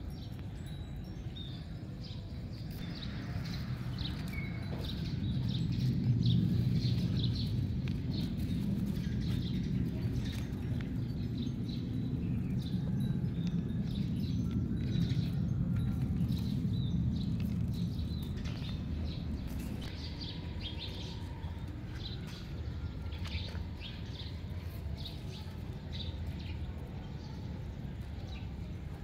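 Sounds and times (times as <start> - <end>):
low outdoor rumble: 0.0 - 29.0
small birds chirping: 0.0 - 29.0.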